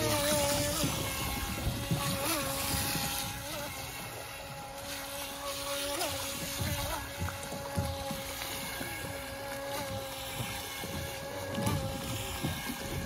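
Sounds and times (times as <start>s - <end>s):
electric motor whine: 0.0s - 13.0s
rumble of wind and water: 0.0s - 13.0s.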